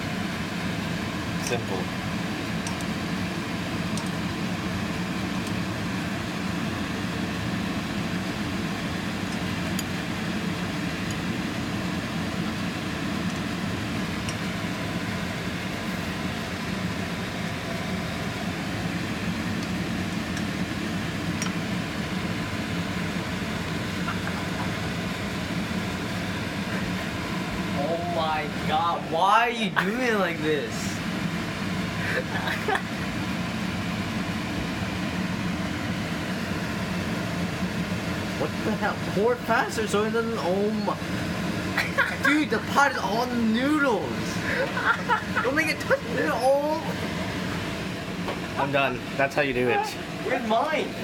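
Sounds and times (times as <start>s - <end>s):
fan humming: 0.0s - 51.0s.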